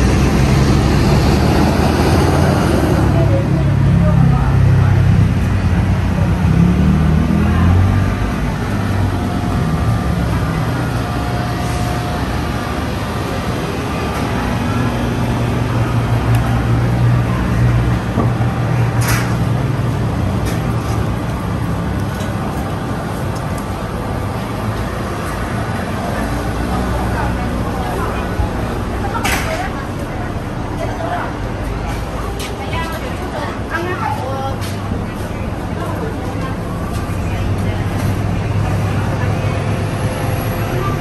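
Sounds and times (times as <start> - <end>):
bus engine humming: 0.0 - 41.0
vehicles passing: 0.0 - 41.0.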